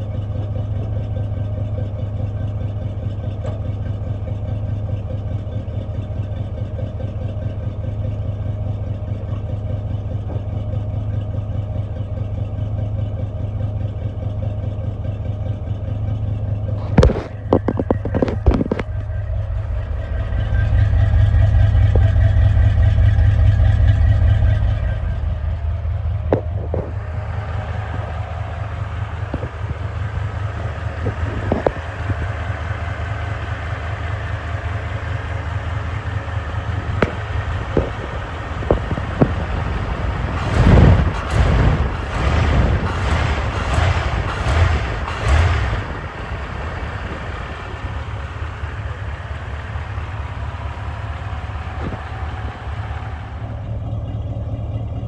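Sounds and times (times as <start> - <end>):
engine surging: 0.0 - 55.0
truck engine idling: 0.0 - 55.0.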